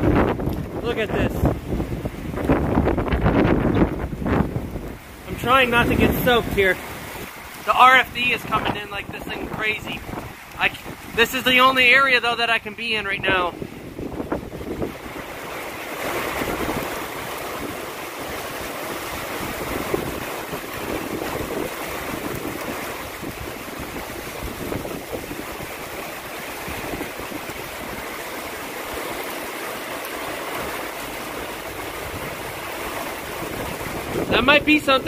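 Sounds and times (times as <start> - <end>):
heavy rain falling: 0.0 - 35.0
wind gusting over microphone: 0.0 - 35.0.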